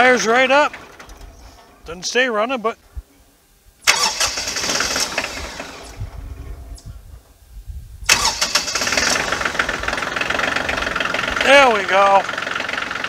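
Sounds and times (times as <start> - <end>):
diesel tractor engine cranking: 0.0 - 2.3, 3.8 - 7.4, 8.0 - 13.0
diesel tractor engine running: 0.0 - 2.3, 3.8 - 13.0.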